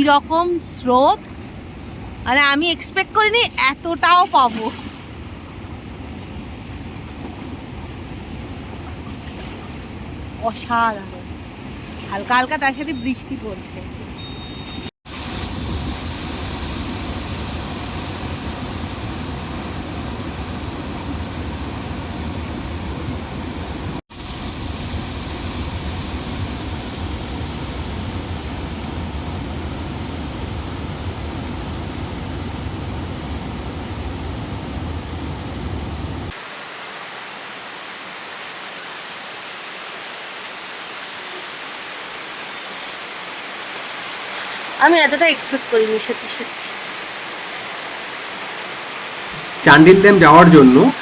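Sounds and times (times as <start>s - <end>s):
rushing floodwater roar: 0.0s - 14.4s, 15.1s - 51.0s.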